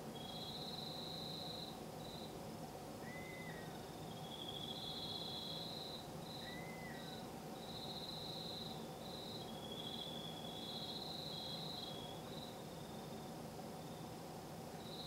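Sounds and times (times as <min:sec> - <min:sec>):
insects trilling: 0:00.0 - 0:02.4, 0:03.0 - 0:15.0
low background hiss: 0:00.0 - 0:15.0.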